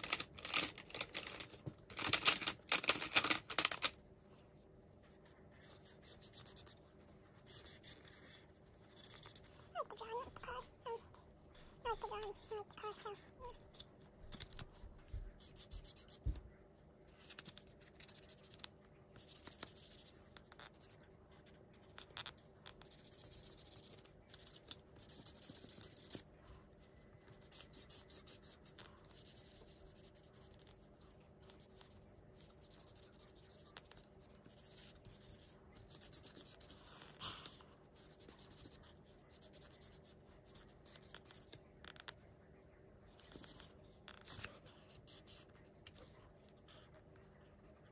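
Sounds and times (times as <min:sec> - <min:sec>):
marker pen scratching on paper: 0:05.0 - 0:11.0, 0:11.6 - 0:16.4, 0:17.2 - 0:42.2, 0:43.1 - 0:47.2.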